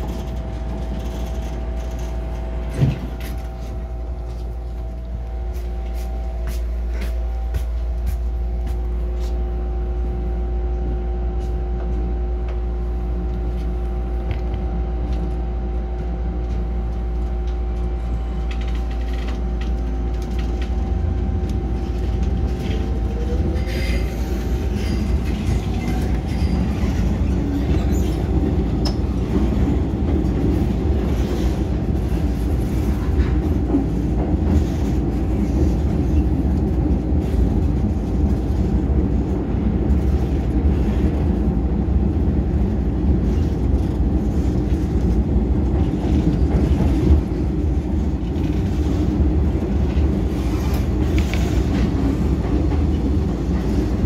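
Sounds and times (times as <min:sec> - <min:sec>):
wheel-on-rail noise: 0:00.0 - 0:08.2, 0:16.3 - 0:54.0
train interior rumble: 0:00.0 - 0:54.0.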